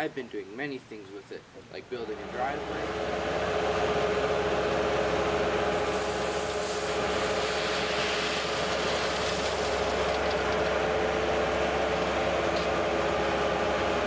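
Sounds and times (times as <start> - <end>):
steady whine: 0.8 - 14.0
diesel engine running: 2.0 - 14.0.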